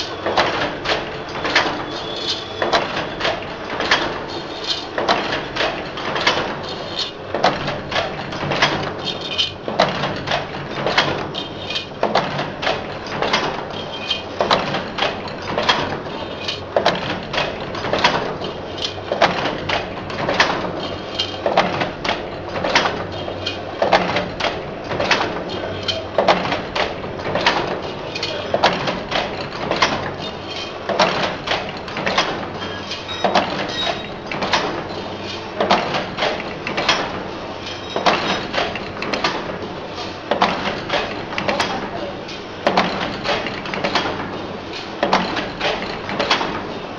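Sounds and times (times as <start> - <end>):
machine dies clanking: 0.0 - 46.9.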